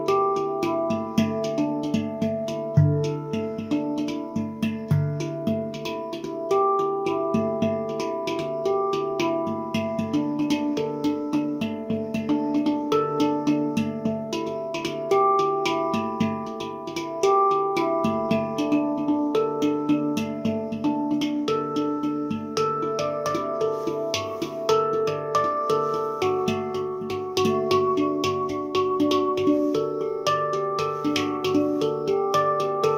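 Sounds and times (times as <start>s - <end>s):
handpan notes: 0.0s - 32.9s.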